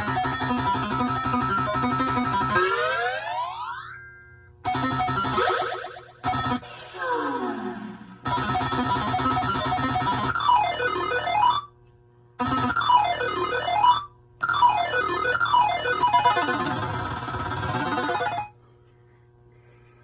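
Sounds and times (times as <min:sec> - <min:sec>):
synthesized pinball game sounds: 0:00.0 - 0:11.7, 0:12.4 - 0:18.6.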